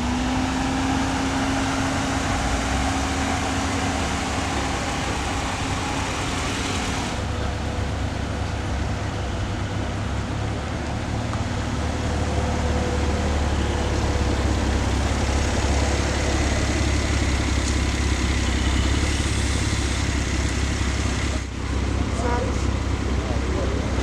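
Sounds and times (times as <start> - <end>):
car engine idling low: 0.8 - 24.0.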